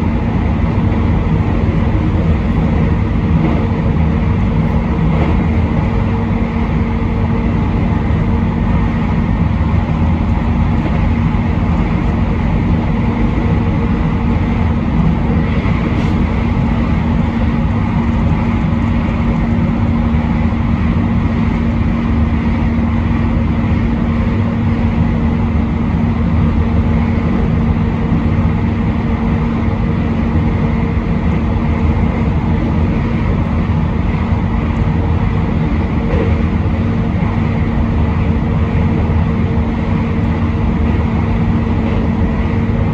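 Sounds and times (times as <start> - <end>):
constant low hum: 0.0 - 42.9
train wheels on rails: 0.0 - 42.9.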